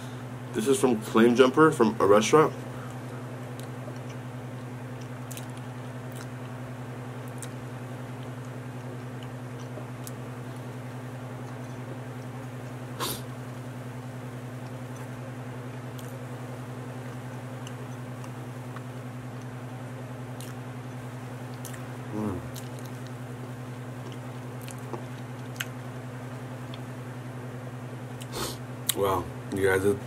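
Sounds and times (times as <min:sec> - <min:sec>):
low electrical hum: 0:00.0 - 0:30.0
man chewing food: 0:02.6 - 0:27.1, 0:28.1 - 0:29.0.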